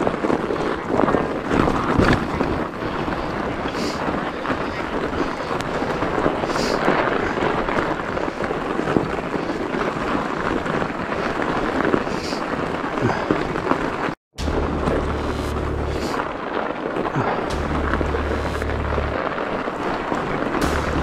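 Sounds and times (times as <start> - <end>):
bike tyres rolling in snow: 0.0 - 21.0.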